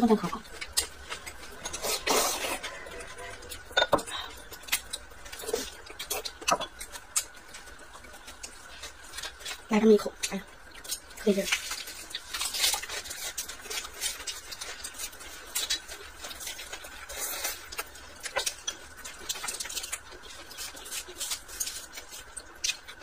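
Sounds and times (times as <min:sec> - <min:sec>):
chewing leafy greens: 0:00.0 - 0:23.0.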